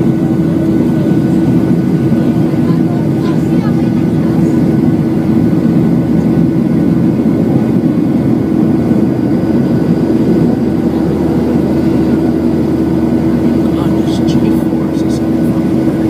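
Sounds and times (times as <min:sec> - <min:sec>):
jet engines droning in cabin: 0:00.0 - 0:16.0.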